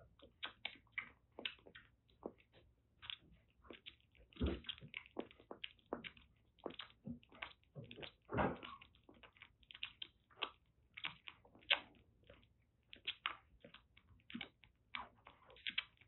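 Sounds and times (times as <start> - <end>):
kitten suckling at bottle: 0.1 - 16.0.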